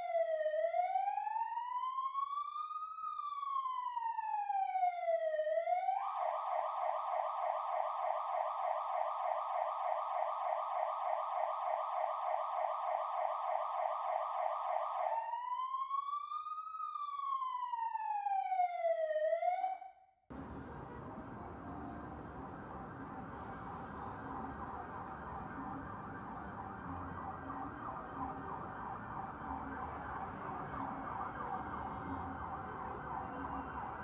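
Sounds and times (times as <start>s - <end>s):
emergency vehicle siren: 0.0s - 34.0s.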